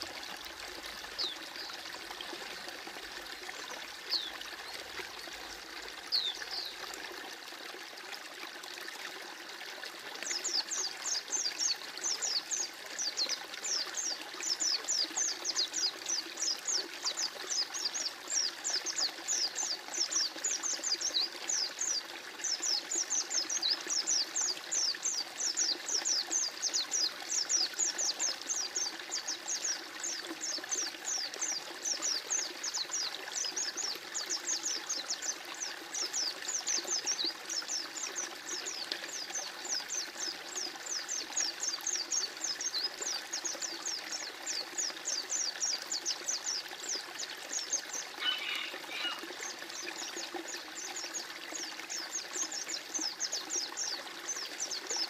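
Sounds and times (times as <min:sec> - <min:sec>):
stream flowing: 0:00.0 - 0:55.0
songbirds chirping rapidly: 0:10.3 - 0:55.0.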